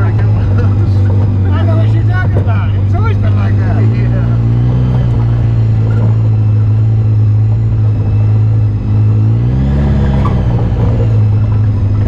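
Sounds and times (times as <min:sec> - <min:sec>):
off-road vehicle engine droning: 0:00.0 - 0:12.0
second engine rising and falling: 0:00.0 - 0:12.0.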